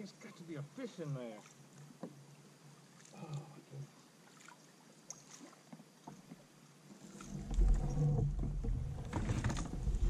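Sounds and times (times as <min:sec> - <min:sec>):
light water sounds: 0:00.0 - 0:10.0.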